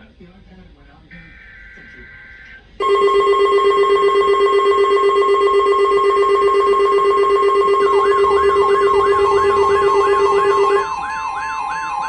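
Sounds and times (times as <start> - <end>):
faint high electronic buzz: 1.0 - 12.0
emergency alert tone: 1.2 - 12.0.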